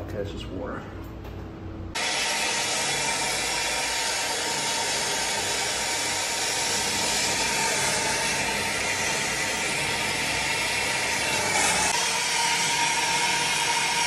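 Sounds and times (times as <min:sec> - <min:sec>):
gas torch hissing: 0:02.0 - 0:14.0.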